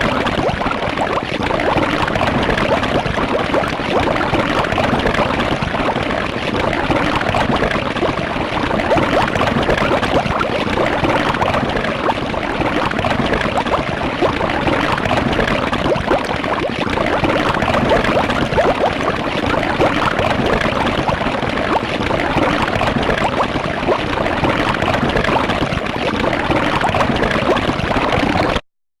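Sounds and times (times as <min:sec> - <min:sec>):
cartoon wet bubbling squirt: 0:00.0 - 0:28.6.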